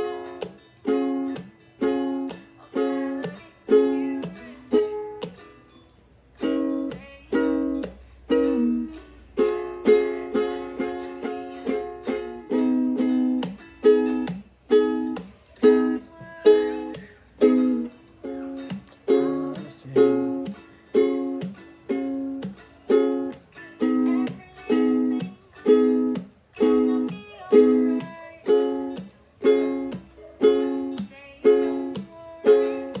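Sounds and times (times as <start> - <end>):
ukulele strumming chords: 0.0 - 33.0.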